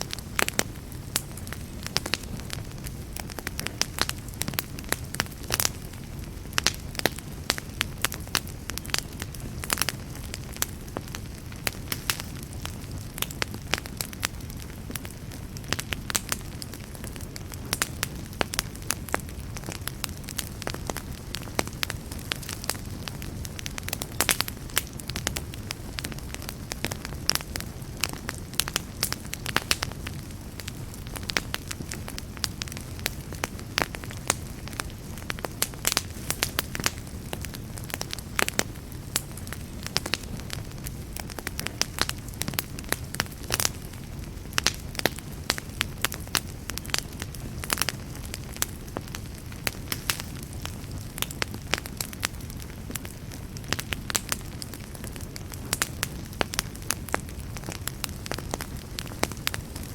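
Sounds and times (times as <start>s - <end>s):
campfire crackling and popping: 0.0s - 59.9s
low rumble of burning wood: 0.0s - 59.9s.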